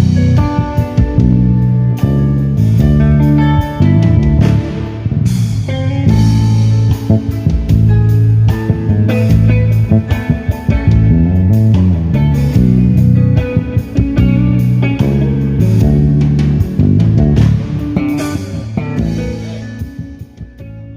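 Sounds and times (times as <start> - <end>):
drum kit: 0.0 - 20.9
electric bass guitar line: 0.0 - 20.9
electric guitar chords: 0.0 - 20.9.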